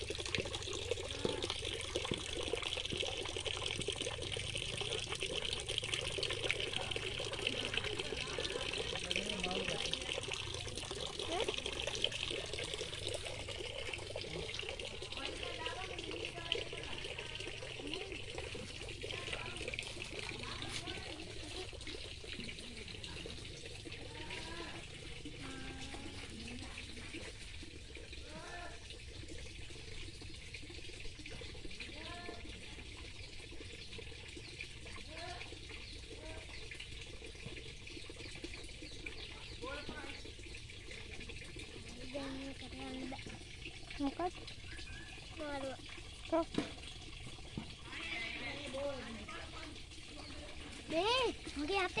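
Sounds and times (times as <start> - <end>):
water pouring into a tank: 0.0 - 52.0.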